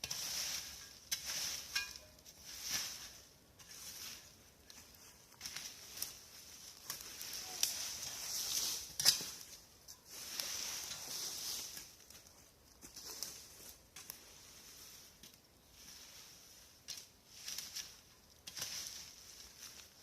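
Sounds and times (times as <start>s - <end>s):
dry branches and leaves rustling: 0.0s - 20.0s.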